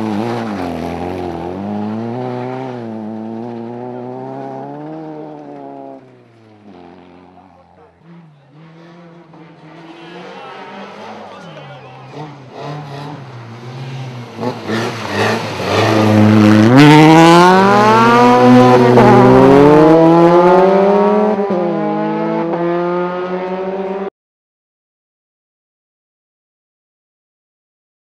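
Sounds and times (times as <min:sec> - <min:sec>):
rally car engine revving: 0:00.0 - 0:24.1.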